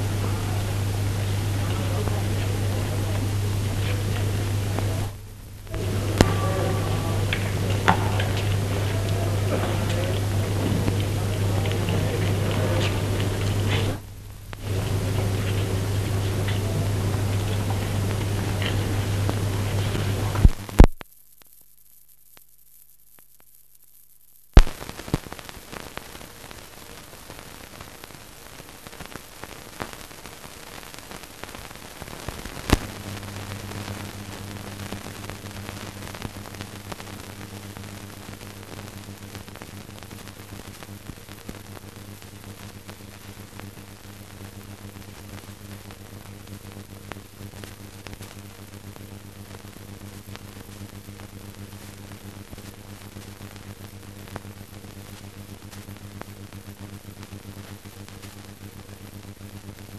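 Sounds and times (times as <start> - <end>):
film soundtrack hiss: 0.0 - 59.9.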